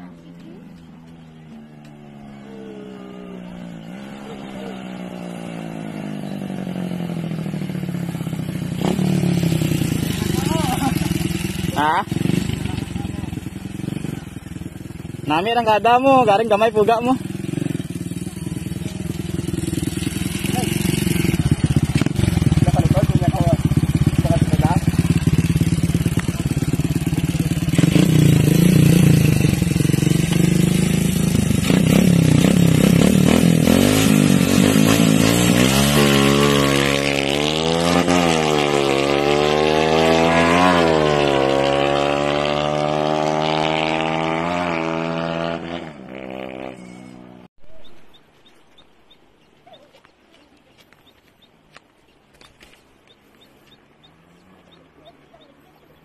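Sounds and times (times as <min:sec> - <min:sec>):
motorcycle revving and shifting gears: 0:00.0 - 0:47.5.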